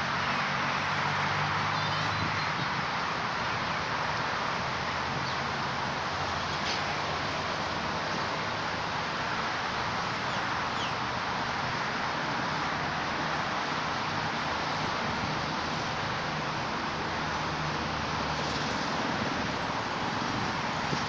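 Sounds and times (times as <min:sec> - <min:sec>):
steady outdoor background hiss: 0:00.0 - 0:21.0.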